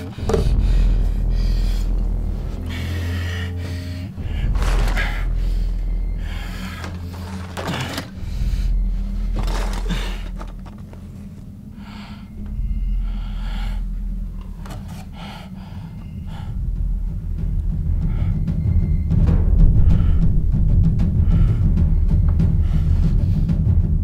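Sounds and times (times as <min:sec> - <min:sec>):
man breathing heavily with gasps: 0:00.0 - 0:18.7, 0:19.8 - 0:23.7
low steady drone: 0:00.0 - 0:24.0.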